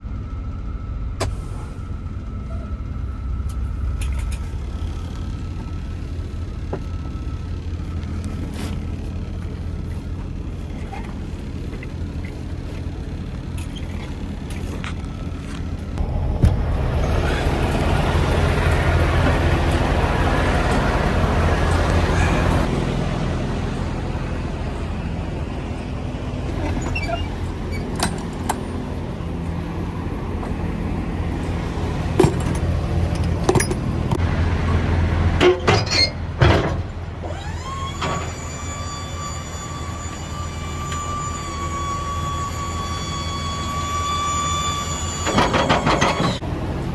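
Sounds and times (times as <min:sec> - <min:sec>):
high whine: 0:00.0 - 0:34.2, 0:37.2 - 0:46.4
diesel truck engine humming: 0:00.0 - 0:46.9.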